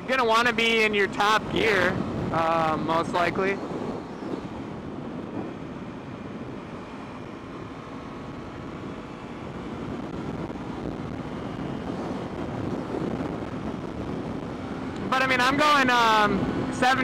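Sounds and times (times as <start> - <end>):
motorcycle engine at speed: 0.0 - 17.0
wind rushing over microphone: 0.0 - 17.0.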